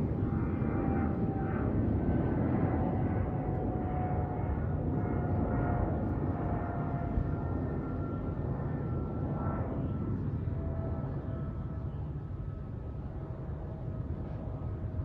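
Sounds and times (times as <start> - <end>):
jet airliner rumble overhead: 0.0 - 15.0
thin jet engine whine: 0.0 - 15.0.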